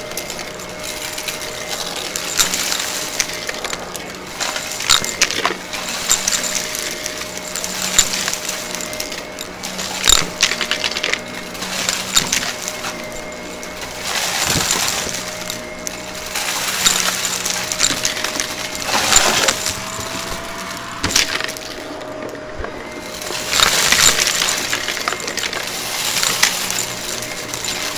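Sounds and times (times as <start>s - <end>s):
grit rattling up vacuum nozzle: 0.0s - 27.9s
vacuum cleaner on carpet: 0.0s - 27.9s.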